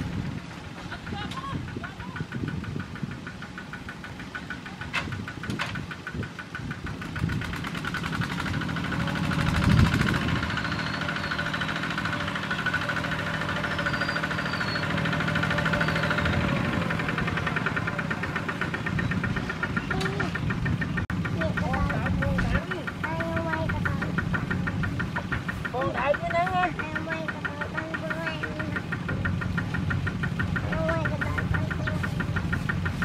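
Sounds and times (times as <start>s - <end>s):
diesel tractor engine knocking: 0.0s - 33.0s.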